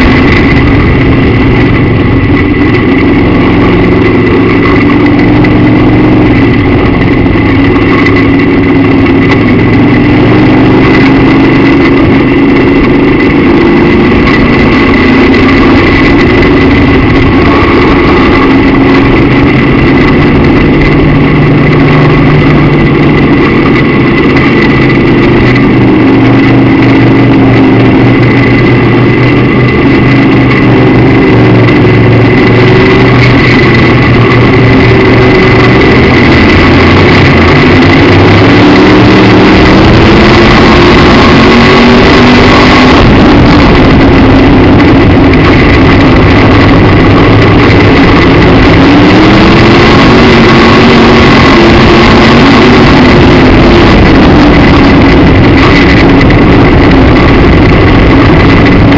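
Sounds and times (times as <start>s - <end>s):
race car engine revving: 0.0s - 58.9s.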